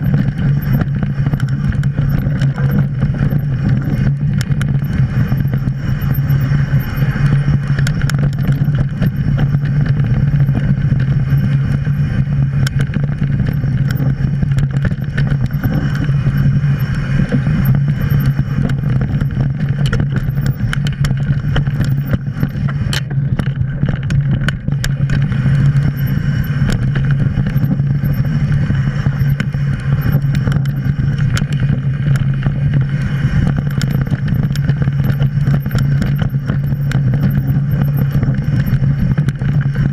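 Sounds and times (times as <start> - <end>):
bike tyres rumbling on dirt: 0.0 - 39.9
clicks and knocks from bike: 0.0 - 39.9.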